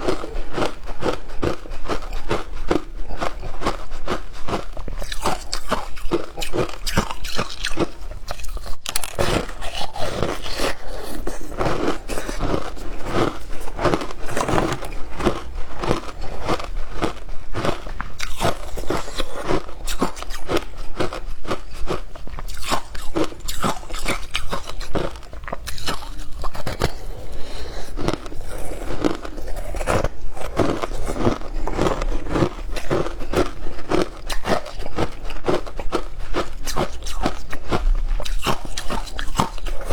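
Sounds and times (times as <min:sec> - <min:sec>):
crunching shaved ice: 0:00.0 - 0:39.9.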